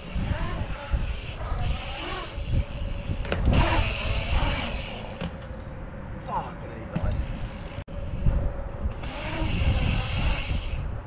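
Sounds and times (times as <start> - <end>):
wind on microphone: 0.0 - 6.3, 7.0 - 11.0
bike tyres rolling on concrete: 0.0 - 11.0.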